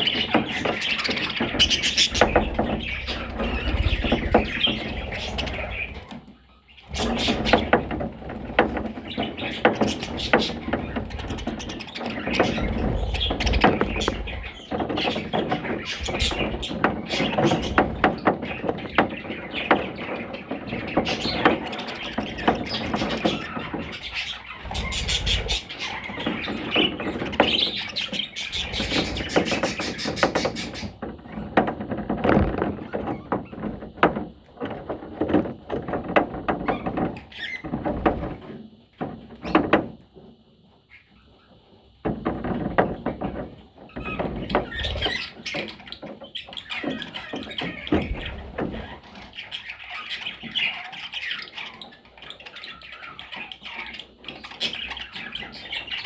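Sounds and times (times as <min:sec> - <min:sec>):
parrots chattering and squawking: 0:00.0 - 0:33.7, 0:35.8 - 0:38.5, 0:43.9 - 0:56.0.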